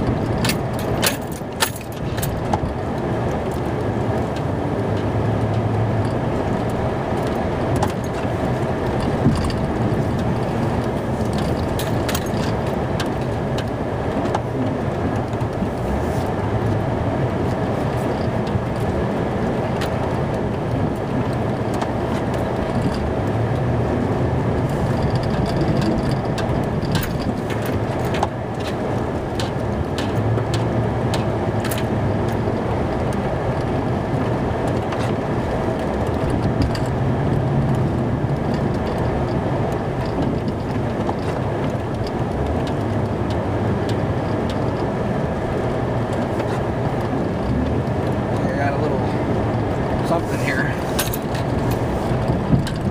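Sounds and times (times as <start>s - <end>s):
clicks and rattles: 0.0s - 52.9s
truck engine droning: 0.0s - 52.9s.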